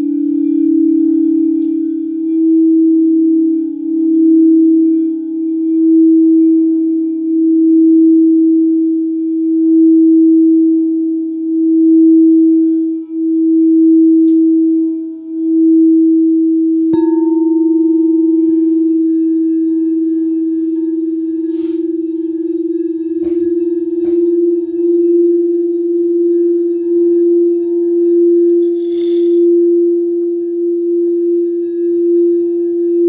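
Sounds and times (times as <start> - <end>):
singing bowl low tone: 0.0 - 33.0.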